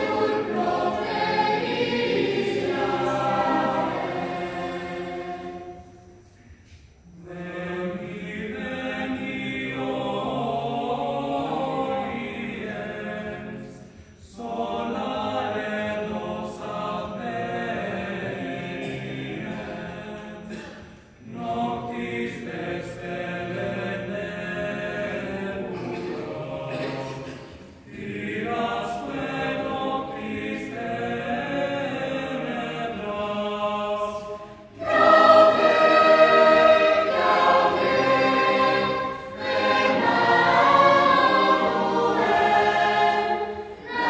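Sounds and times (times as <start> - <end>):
children's choir singing: 0.0 - 44.0.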